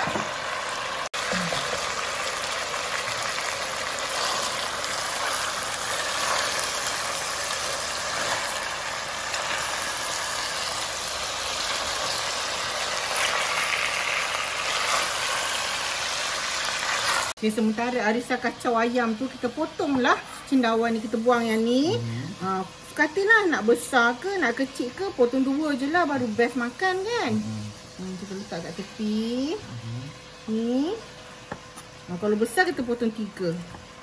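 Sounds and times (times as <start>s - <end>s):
chicken sizzling in a pot: 0.0s - 29.6s.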